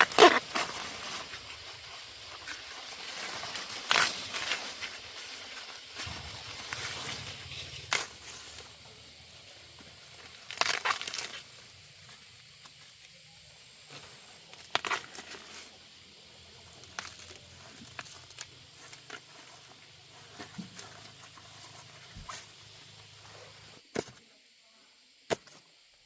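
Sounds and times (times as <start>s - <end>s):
rustling of handled things: 0.0s - 24.2s.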